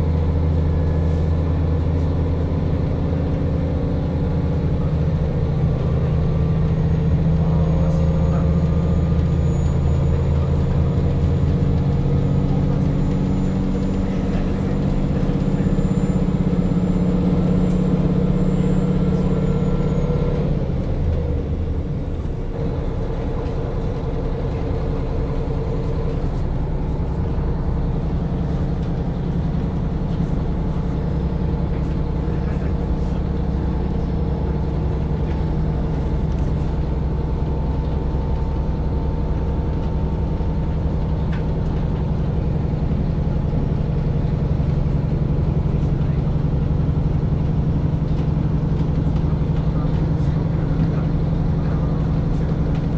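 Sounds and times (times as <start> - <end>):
diesel railcar engine idling: 0.0 - 52.9.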